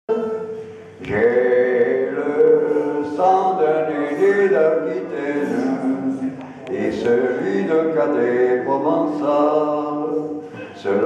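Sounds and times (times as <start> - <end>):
elderly man singing: 0.1 - 11.0.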